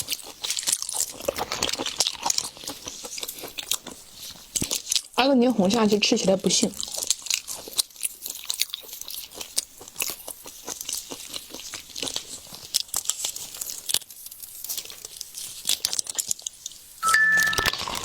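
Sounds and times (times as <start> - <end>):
wet chewing clicks: 0.0 - 17.0
crunching food: 0.0 - 18.0.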